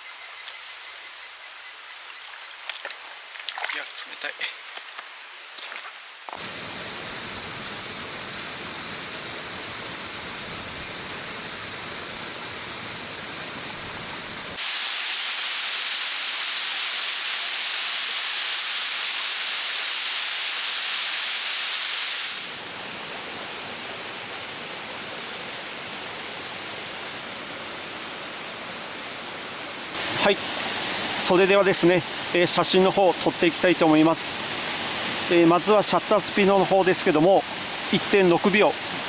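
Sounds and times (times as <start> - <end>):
waterfall rushing: 6.4 - 39.0.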